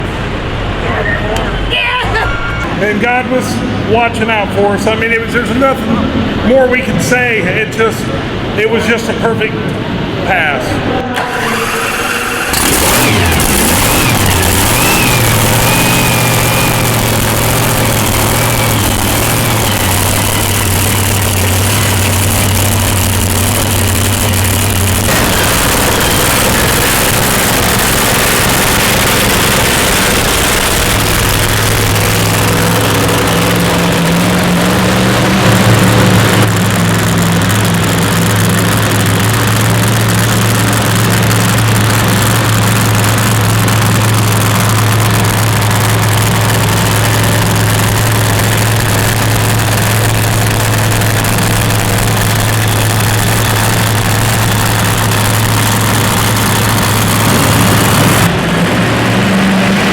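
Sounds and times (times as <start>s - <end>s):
truck engine humming steadily: 0.0s - 59.9s.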